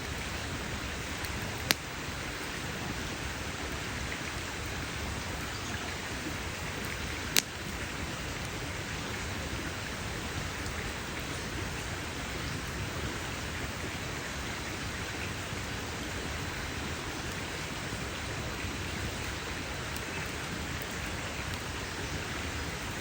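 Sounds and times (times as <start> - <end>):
campfire hissing and crackling: 0.0 - 23.0.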